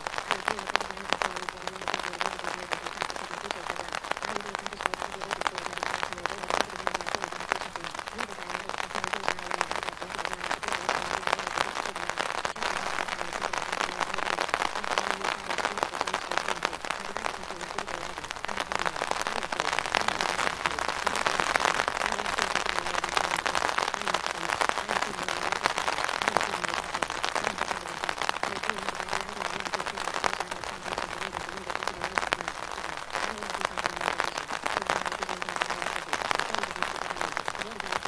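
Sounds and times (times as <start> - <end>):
faint voice: 0.0 - 38.0
steady rain hiss: 0.0 - 38.0.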